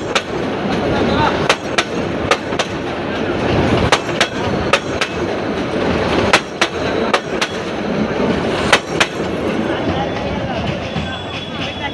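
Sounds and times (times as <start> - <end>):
train rumble: 0.0 - 11.9
train wheels clacking over rail joints: 0.0 - 11.9.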